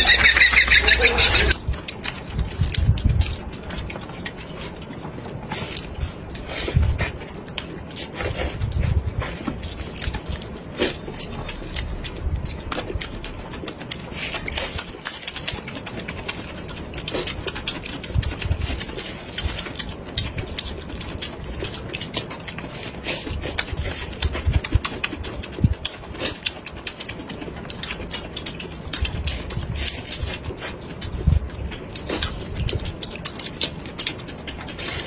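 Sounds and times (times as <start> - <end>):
people chewing and smacking: 0.0 - 35.0.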